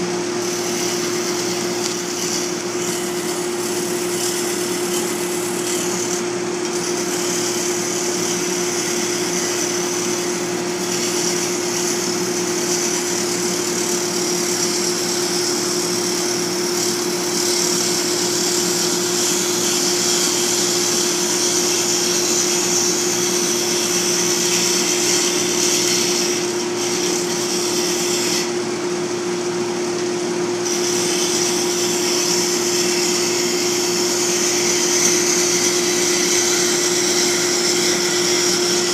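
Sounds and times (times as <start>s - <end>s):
lathe humming: 0.0s - 38.9s
tool hissing cutting spinning work: 0.0s - 38.9s.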